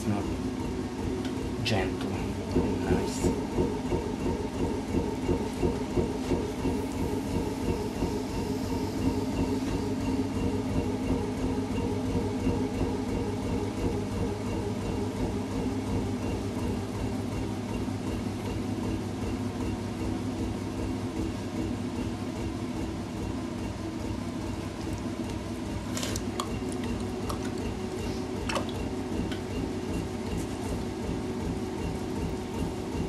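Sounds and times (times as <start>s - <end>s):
potter's wheel motor hum: 0.0s - 33.0s.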